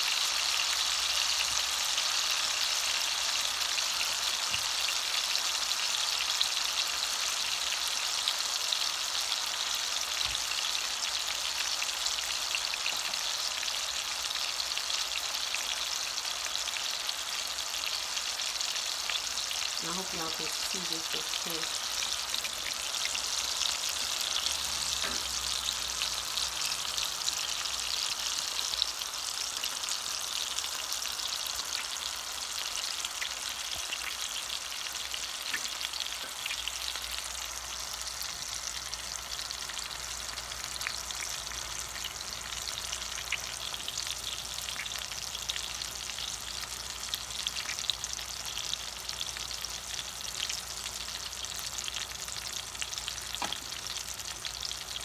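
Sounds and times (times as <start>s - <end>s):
sausage sizzling in hot oil: 0.0s - 55.0s.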